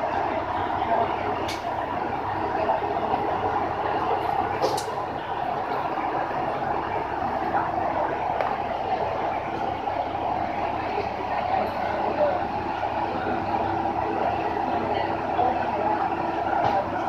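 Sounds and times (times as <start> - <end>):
diesel railcar engine idling: 0.0 - 17.0.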